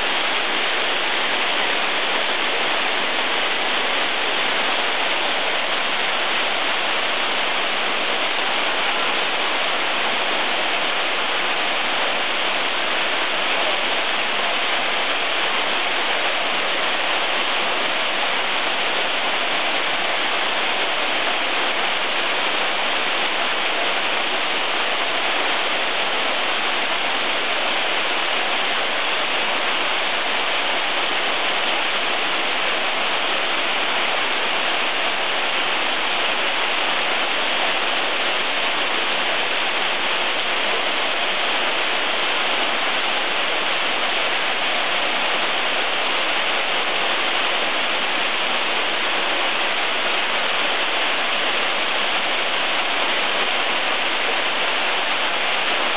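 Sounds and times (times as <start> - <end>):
waterfall rushing into pool: 0.0 - 55.9.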